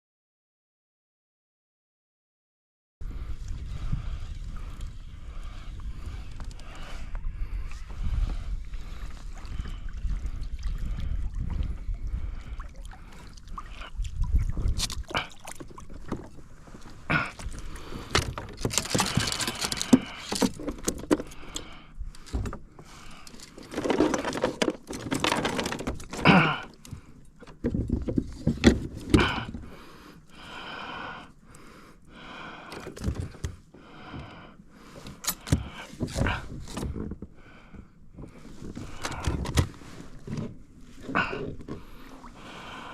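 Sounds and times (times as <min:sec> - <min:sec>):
kayak and fishing gear handled: 0:03.1 - 0:42.9.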